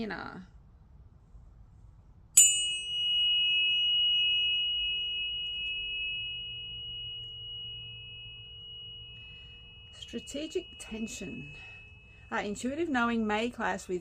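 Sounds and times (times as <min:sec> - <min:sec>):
tuning fork ringing: 0:02.4 - 0:13.7.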